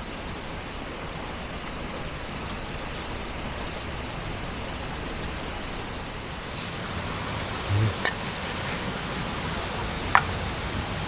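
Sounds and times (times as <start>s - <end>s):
outdoor noise hiss: 0.0s - 11.0s.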